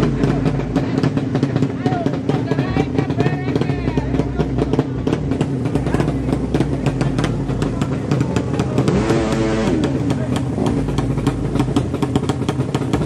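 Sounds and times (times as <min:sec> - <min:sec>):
drag bike exhaust crackling: 0:00.0 - 0:13.0.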